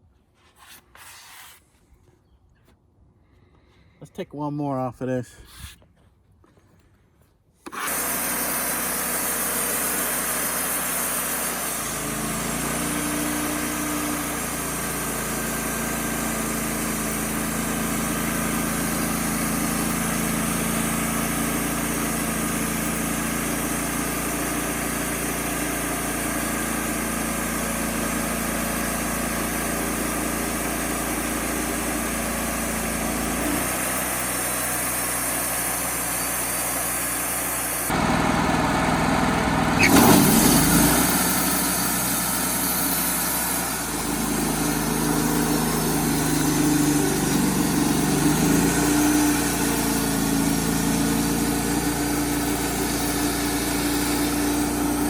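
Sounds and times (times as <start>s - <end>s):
sawmill running: 7.6s - 55.0s.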